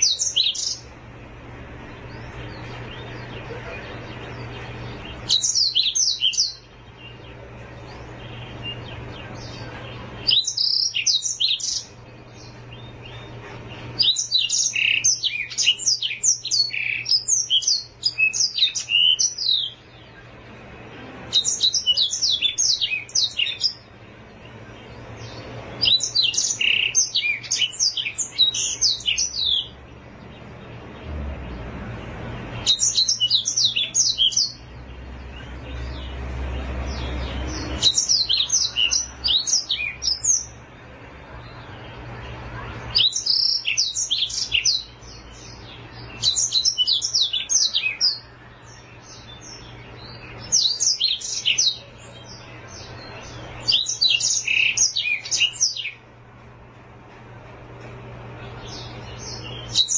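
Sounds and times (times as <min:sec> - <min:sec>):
canary singing: 0:00.0 - 0:56.2, 0:57.7 - 0:59.9.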